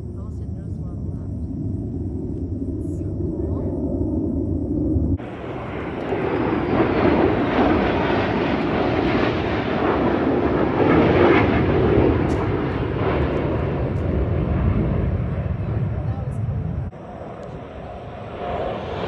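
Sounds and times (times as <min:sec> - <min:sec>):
jet engines passing overhead: 0:00.0 - 0:19.0.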